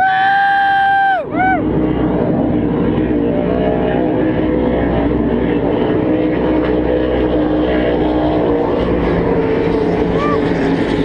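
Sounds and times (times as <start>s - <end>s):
distant boat engines droning: 0.0s - 11.0s.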